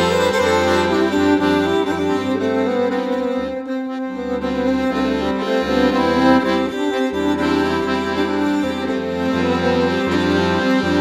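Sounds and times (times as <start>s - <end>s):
accordion folk tune: 0.0s - 11.0s.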